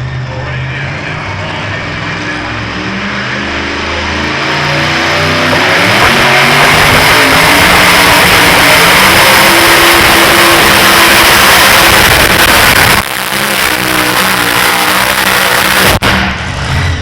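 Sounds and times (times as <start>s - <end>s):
tractor engine at full throttle: 0.0s - 17.0s.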